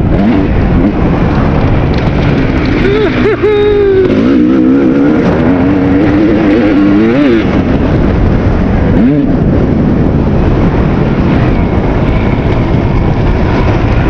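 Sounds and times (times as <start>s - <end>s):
dirt bike engine revving: 0.0s - 12.8s
constant rushing noise: 0.0s - 14.0s.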